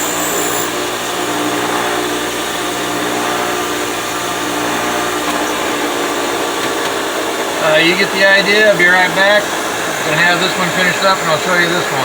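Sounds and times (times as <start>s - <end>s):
bench grinder grinding metal: 0.0s - 12.0s
thin high whine: 0.0s - 12.0s.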